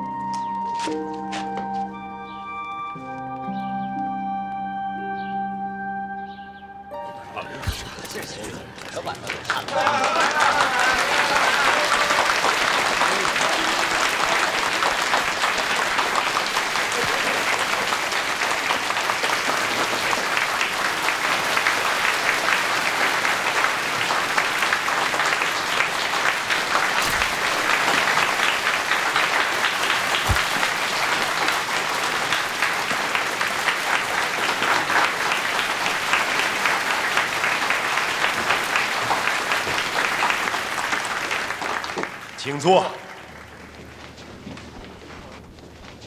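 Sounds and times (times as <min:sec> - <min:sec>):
large audience applauding: 0:07.6 - 0:44.6.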